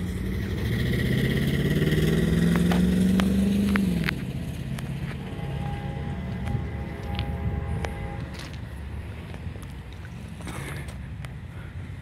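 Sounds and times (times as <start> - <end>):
road vehicle passing: 0.0 - 12.0.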